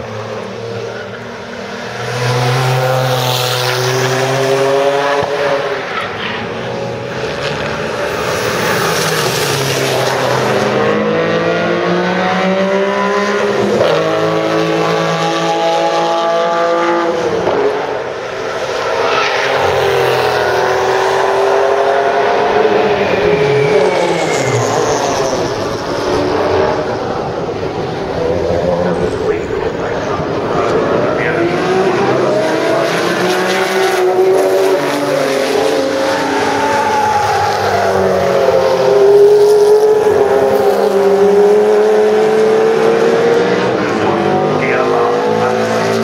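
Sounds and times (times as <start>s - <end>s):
race car engines high revs: 0.0s - 46.0s.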